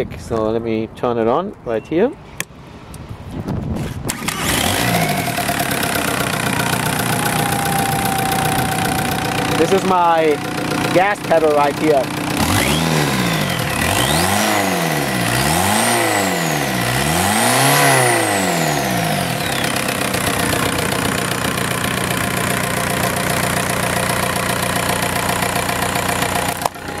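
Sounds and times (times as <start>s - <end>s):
diesel engine revving: 4.0s - 27.0s
diesel engine idling: 4.2s - 27.0s.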